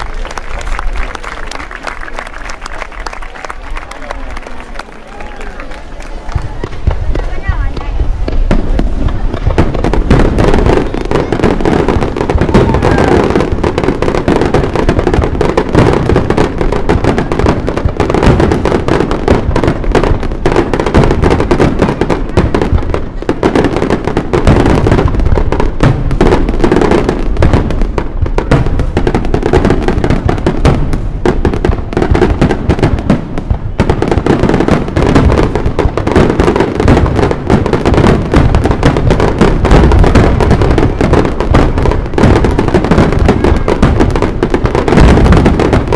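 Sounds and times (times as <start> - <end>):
fireworks bursting: 0.0 - 45.9
fireworks crackle: 0.0 - 45.9.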